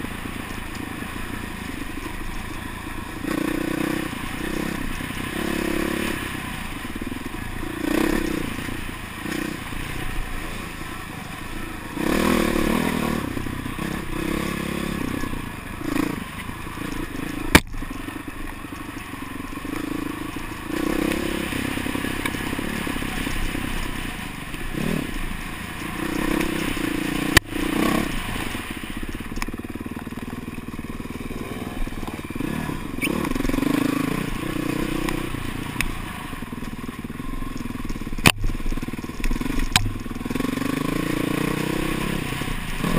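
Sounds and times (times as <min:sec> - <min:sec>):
bike rattling: 0:00.0 - 0:42.9
dirt bike engine revving: 0:00.0 - 0:42.9.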